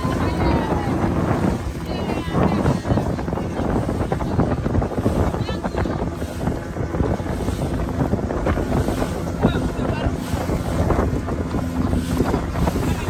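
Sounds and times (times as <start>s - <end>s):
water splashing against boat hull: 0.0s - 13.0s
wind rushing over microphone: 0.0s - 13.0s.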